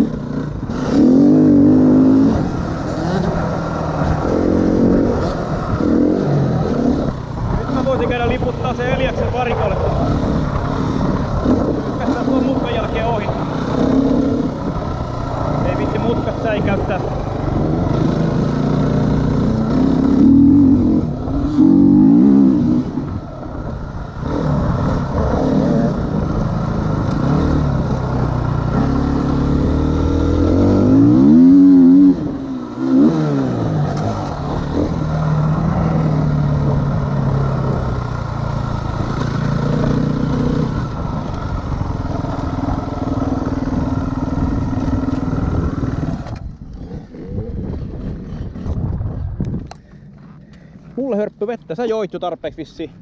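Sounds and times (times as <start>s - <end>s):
dirt bike engine revving: 0.0s - 49.1s.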